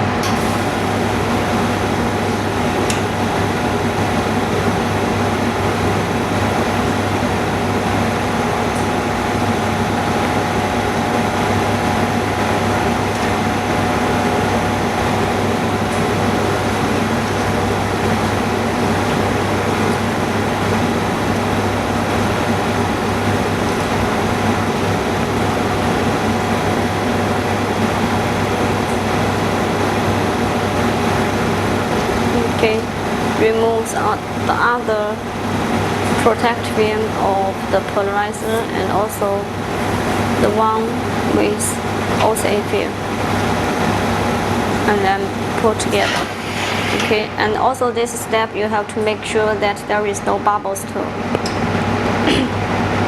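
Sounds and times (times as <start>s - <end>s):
machinery hum and hiss: 0.0s - 53.0s.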